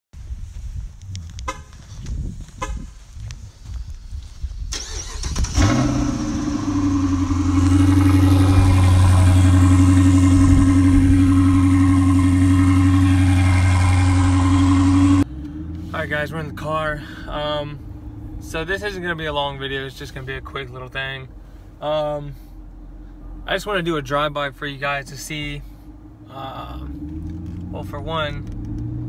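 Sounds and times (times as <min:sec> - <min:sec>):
car engine cranking and idling: 0:03.2 - 0:29.0.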